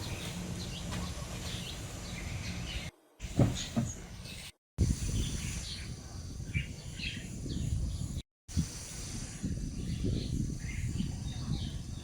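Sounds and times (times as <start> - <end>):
wind buffeting microphone: 2.0 - 12.0.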